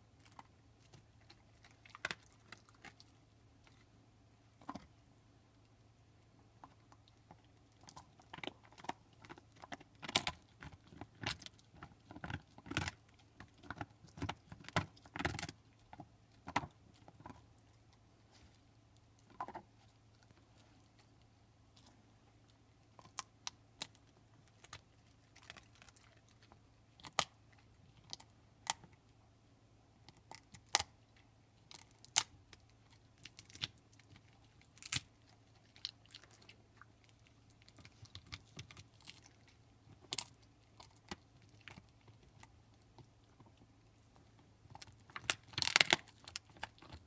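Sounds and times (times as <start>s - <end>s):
dog crunching a bone: 0.1s - 3.9s, 6.6s - 18.5s, 22.9s - 29.0s, 30.0s - 47.0s.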